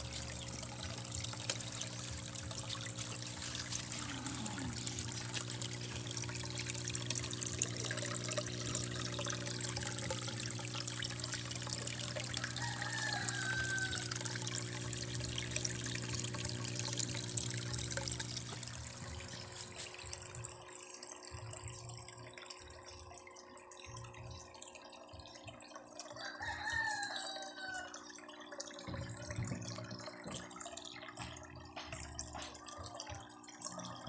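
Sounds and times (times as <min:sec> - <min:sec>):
steady pump hum: 0:00.0 - 0:34.0
water splashing and trickling: 0:00.0 - 0:34.0.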